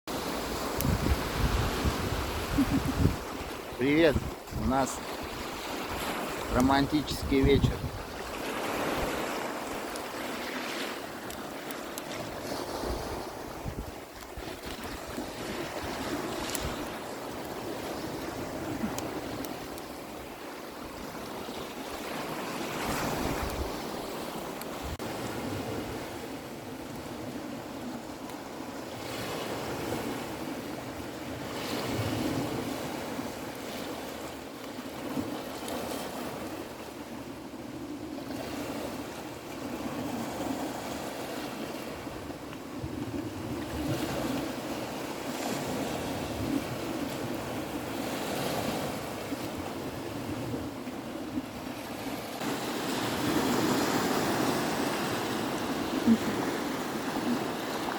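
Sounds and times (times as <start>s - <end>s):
sea surf washing ashore: 0.1s - 57.9s.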